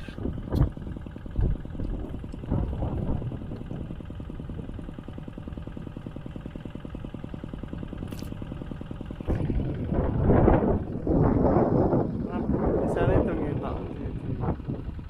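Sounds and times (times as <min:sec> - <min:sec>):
hand tractor engine running: 0:00.0 - 0:12.3.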